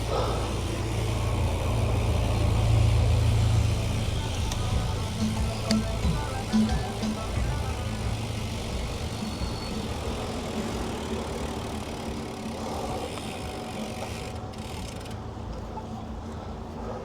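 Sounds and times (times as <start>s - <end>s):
car engines idling: 0.0s - 17.0s
low traffic rumble: 0.0s - 17.0s.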